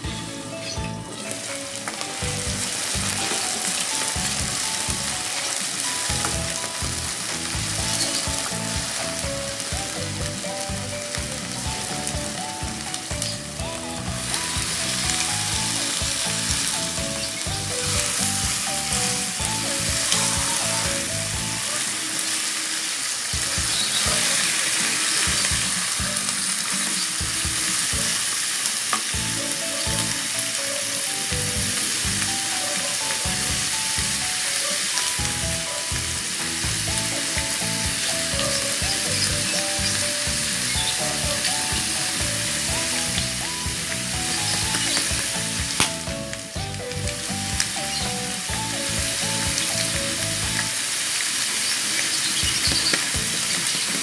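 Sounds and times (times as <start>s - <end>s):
background music: 0.0s - 51.4s, 52.1s - 54.0s
food sizzling in hot oil: 0.0s - 54.0s.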